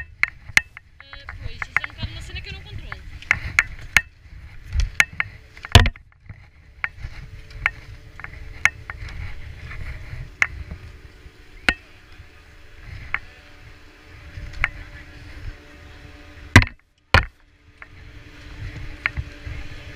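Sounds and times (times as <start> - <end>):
chairlift machinery hum: 0.0 - 19.9
low rumble: 0.0 - 19.9
ski poles and skis clacking: 0.0 - 19.9.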